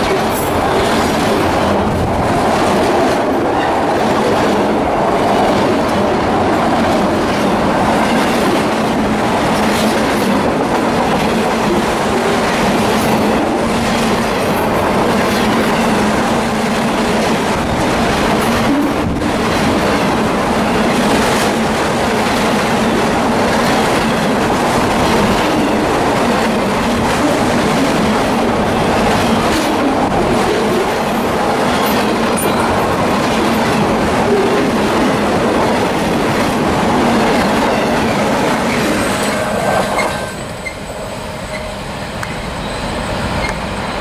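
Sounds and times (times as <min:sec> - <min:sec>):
freight train rolling past: 0:00.0 - 0:44.0.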